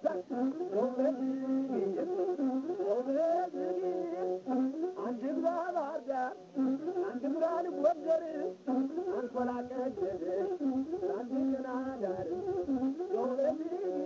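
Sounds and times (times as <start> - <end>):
bowed fiddle melody with slides: 0.0 - 14.0.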